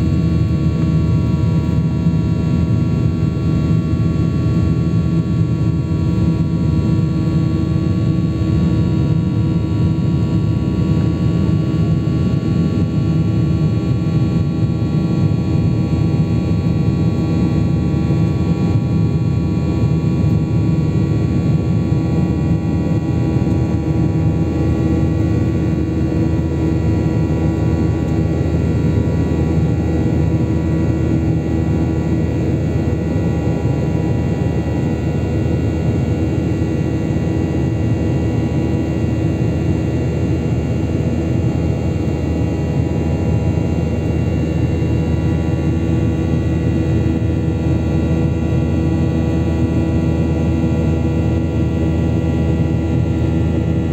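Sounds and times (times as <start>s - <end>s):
airliner engine drone: 0.0s - 53.9s
steady humming tones: 8.0s - 53.9s.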